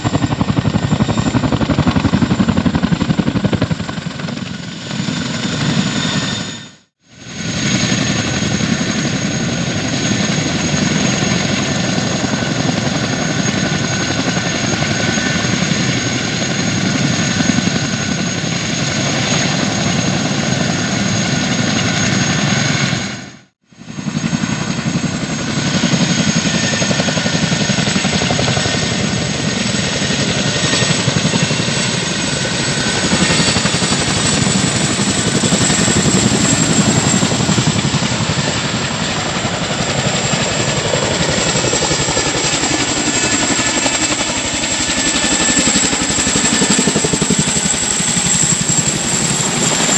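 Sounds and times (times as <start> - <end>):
helicopter rotor beat: 0.0 - 49.9.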